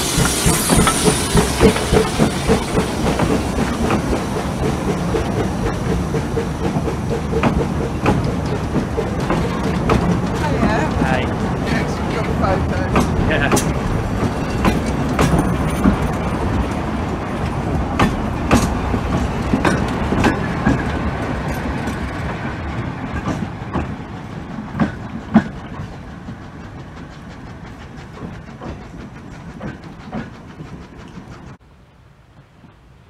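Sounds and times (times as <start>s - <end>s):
wheels clicking over rail joints: 0.0s - 31.6s
train rumble: 0.0s - 33.0s.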